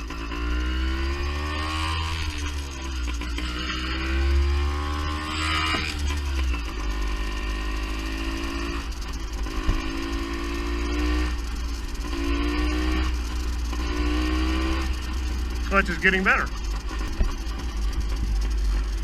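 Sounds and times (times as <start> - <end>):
two-stroke bike engine revving: 0.0 - 19.0.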